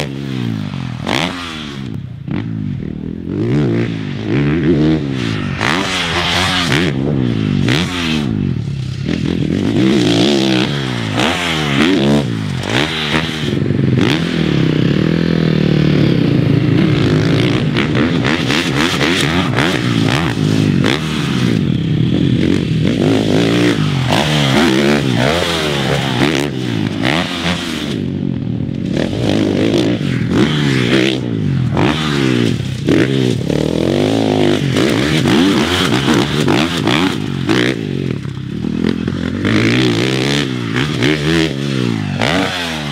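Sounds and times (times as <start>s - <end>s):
motocross engine revving: 0.0s - 42.9s.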